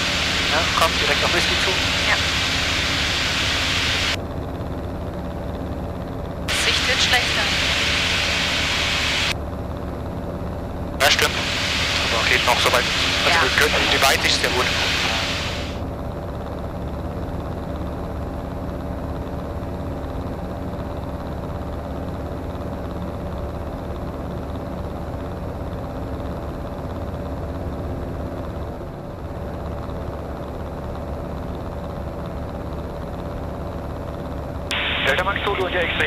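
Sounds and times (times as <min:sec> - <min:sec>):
light aircraft engine droning: 0:00.0 - 0:36.0.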